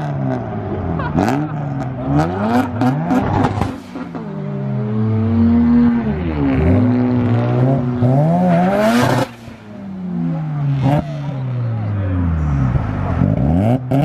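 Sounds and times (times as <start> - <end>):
car engine revving hard: 0.0 - 11.6, 12.4 - 14.0.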